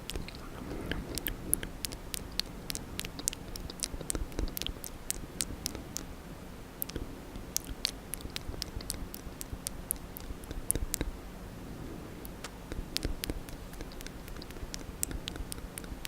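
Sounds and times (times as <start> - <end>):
lip smacks: 0.0 - 6.2, 6.8 - 11.2, 12.1 - 16.0
tongue clicks: 0.0 - 6.2, 6.8 - 11.2, 12.2 - 16.0.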